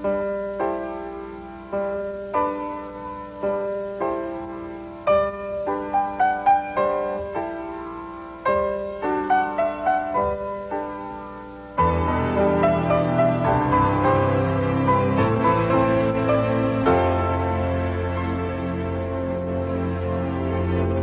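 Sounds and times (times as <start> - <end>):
fuller music arrangement: 0.0 - 21.0
solo piano music: 0.0 - 21.0.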